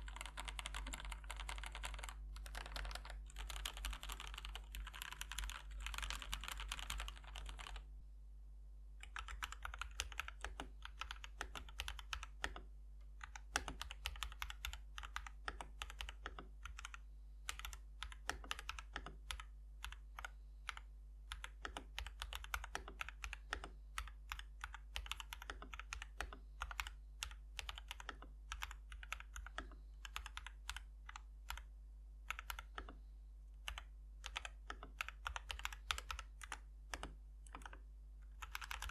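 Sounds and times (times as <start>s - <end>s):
mechanical keyboard typing: 0.0s - 7.8s, 9.0s - 31.7s, 32.3s - 33.0s, 33.6s - 38.9s.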